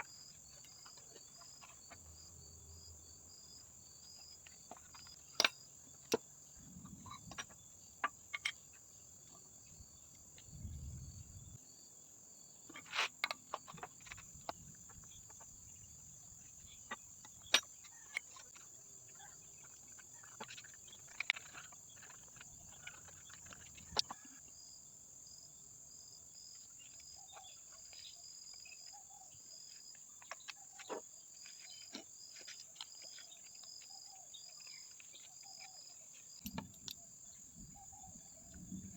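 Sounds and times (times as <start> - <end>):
insects chirring: 0.0 - 38.9
soft insect chirp: 0.0 - 38.9.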